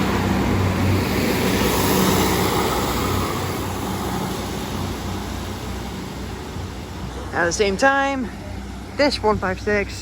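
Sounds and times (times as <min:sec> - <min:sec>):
diesel train engine drone: 0:00.0 - 0:10.0
wheel and rail noise: 0:00.0 - 0:10.0.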